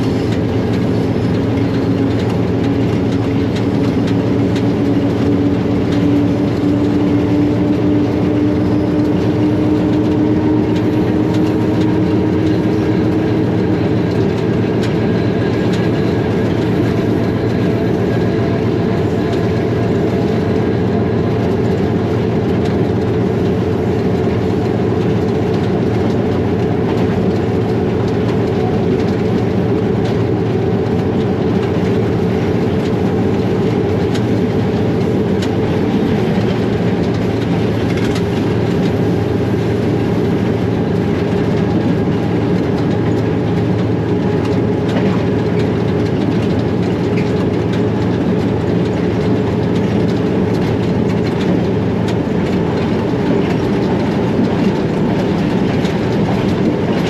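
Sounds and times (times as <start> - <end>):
diesel engine droning: 0.0 - 57.0
wheels clicking over rail joints: 0.0 - 57.0.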